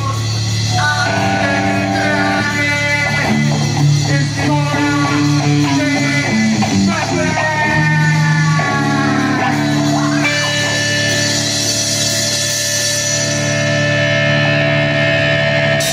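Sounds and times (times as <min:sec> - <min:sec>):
drums: 0:00.0 - 0:15.9
electric guitars and bass: 0:00.0 - 0:15.9.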